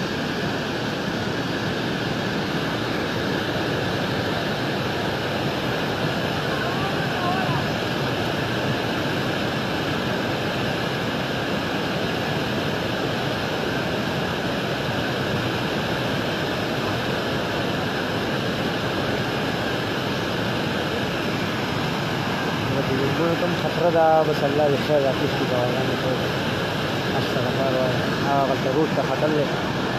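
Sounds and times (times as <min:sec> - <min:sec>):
rushing floodwater: 0:00.0 - 0:29.9.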